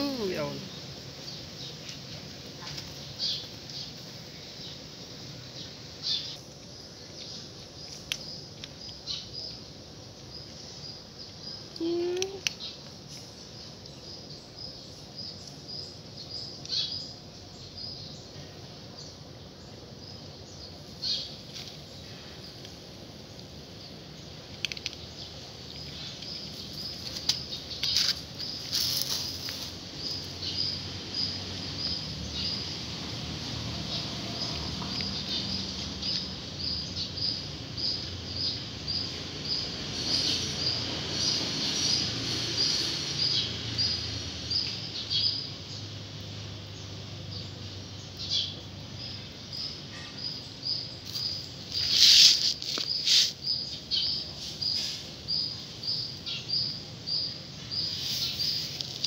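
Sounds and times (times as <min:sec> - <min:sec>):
bird chirping: 0:00.0 - 0:46.0, 0:46.6 - 0:59.0.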